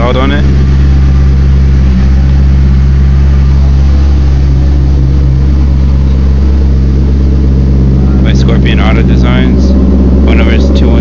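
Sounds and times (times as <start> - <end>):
car engine idling with deep rumble: 0.0 - 11.0.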